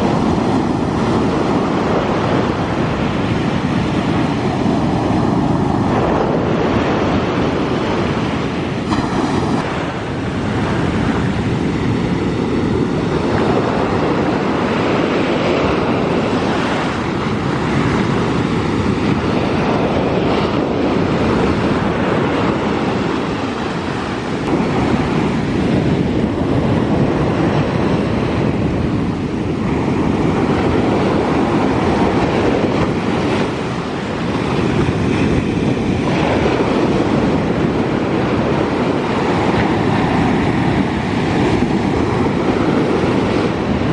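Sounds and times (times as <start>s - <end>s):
sea waves breaking on beach: 0.0s - 43.9s
wind on microphone: 0.0s - 43.9s.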